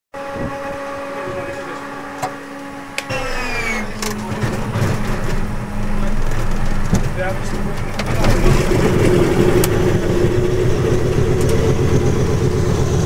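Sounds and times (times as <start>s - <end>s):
radial engine rumbling: 0.2s - 13.0s
starter whine: 0.2s - 13.0s.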